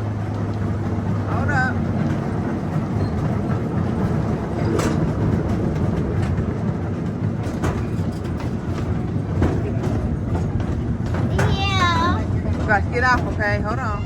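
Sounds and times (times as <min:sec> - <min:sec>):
clacks at rail joints: 0:00.0 - 0:14.0
train wheels rumbling on rails: 0:00.0 - 0:14.0.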